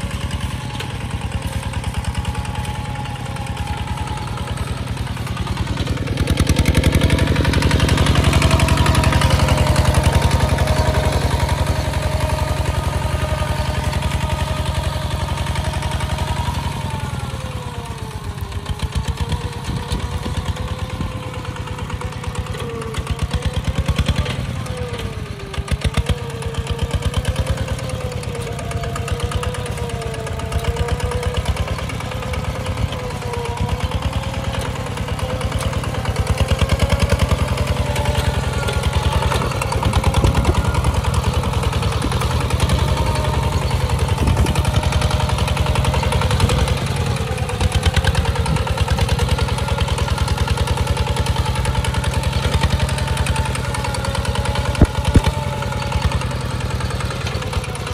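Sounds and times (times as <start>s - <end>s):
diesel tractor engine chugging: 0.0s - 57.9s.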